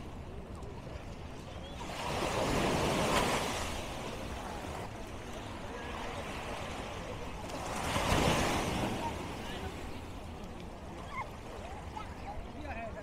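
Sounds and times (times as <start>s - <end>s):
sea waves breaking on beach: 0.9s - 13.0s.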